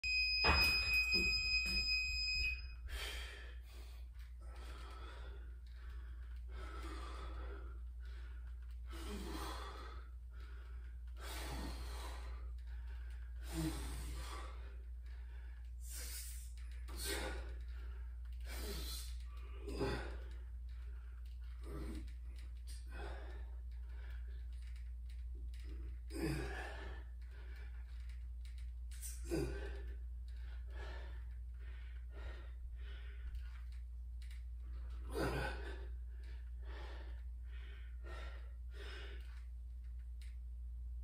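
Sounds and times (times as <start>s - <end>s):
steady low hum: 0.0s - 41.0s
man breathing hard: 2.8s - 24.9s, 25.5s - 39.5s.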